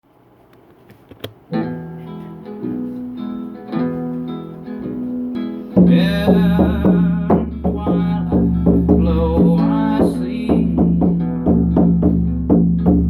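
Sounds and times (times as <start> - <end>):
acoustic guitar notes and chords: 1.0 - 13.0.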